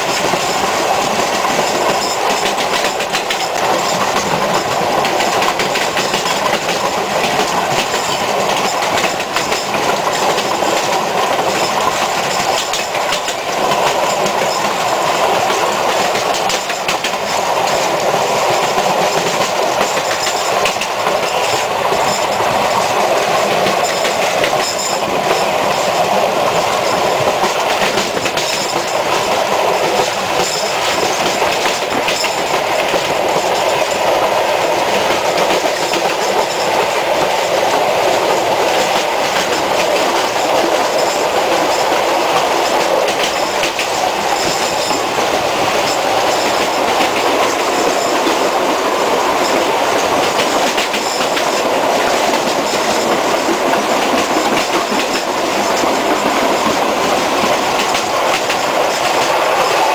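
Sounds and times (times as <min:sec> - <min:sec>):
clickety-clack over rail joints: 0:00.0 - 0:59.9
train wheels rumbling on track: 0:00.0 - 0:59.9.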